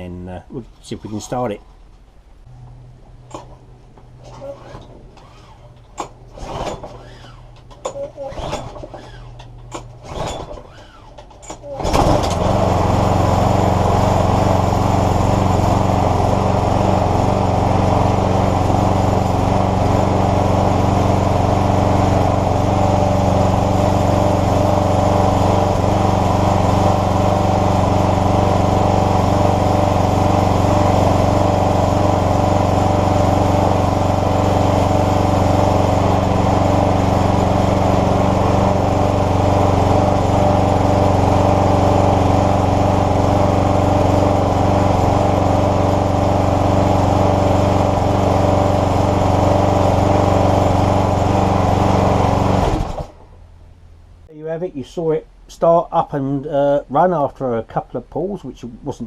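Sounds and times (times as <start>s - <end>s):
lawn mower engine running: 2.5s - 54.3s.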